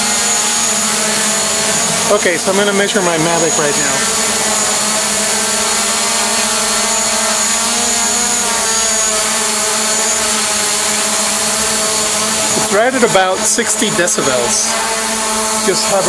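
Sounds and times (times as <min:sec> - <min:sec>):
drone hovering: 0:00.0 - 0:16.0.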